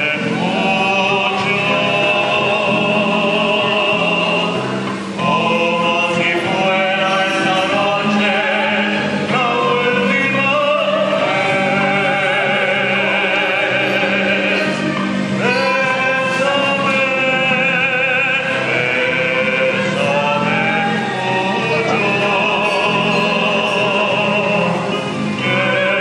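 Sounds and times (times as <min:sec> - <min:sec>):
instrumental accompaniment: 0:00.0 - 0:26.0
man and woman singing a duet: 0:00.0 - 0:26.0.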